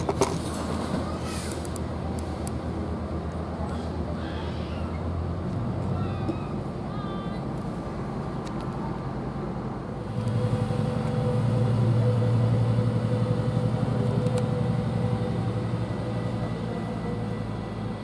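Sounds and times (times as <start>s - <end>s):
diesel locomotive engine droning: 0.0s - 18.0s.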